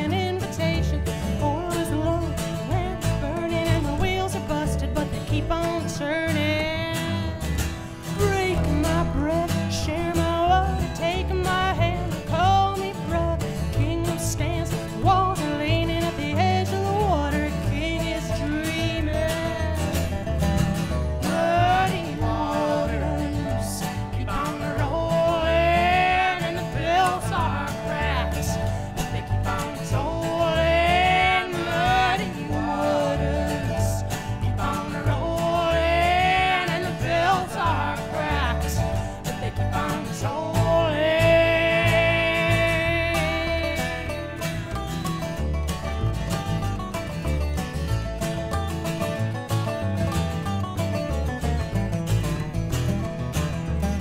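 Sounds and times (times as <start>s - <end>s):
person singing: 0.0s - 20.0s, 21.2s - 44.9s
acoustic guitars: 0.0s - 54.0s
upright bass: 0.0s - 54.0s.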